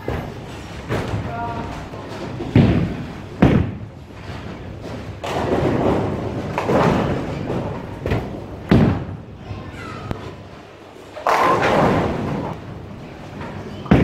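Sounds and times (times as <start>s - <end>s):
bowling ball thudding and rolling: 0.0s - 14.0s
bowling pins clattering: 0.0s - 14.0s.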